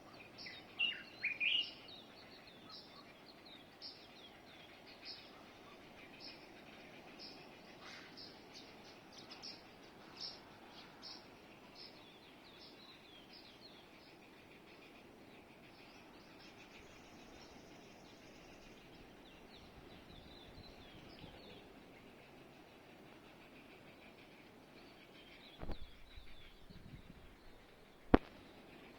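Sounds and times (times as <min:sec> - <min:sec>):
birds chirping faintly: 0:00.0 - 0:28.9
faint background hiss: 0:00.0 - 0:28.9.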